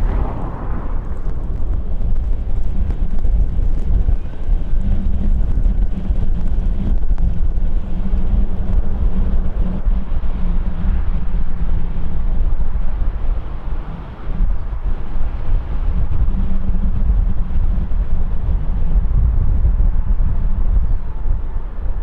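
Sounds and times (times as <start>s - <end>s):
jet engines rumbling past: 0.0s - 22.0s
wind buffeting microphone: 0.0s - 22.0s.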